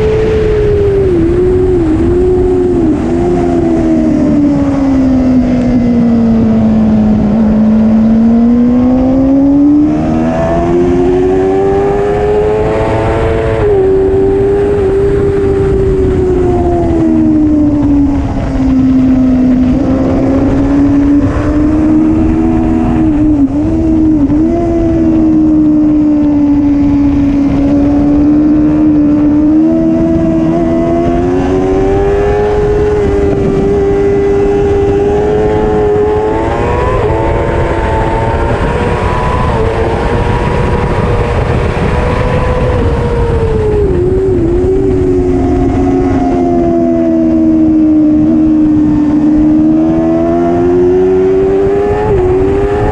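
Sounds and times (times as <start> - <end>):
motorbike engine revving: 0.0 - 52.9.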